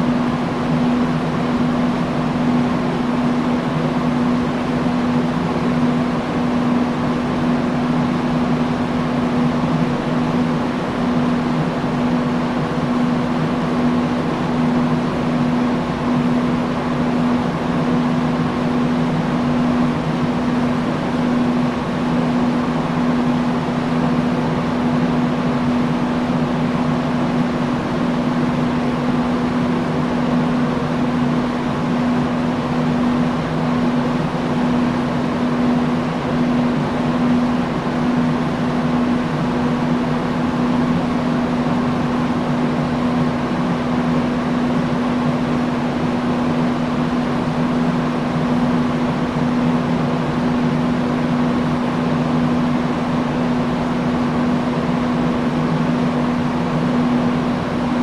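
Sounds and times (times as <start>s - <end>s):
industrial fan running: 0.0s - 58.0s.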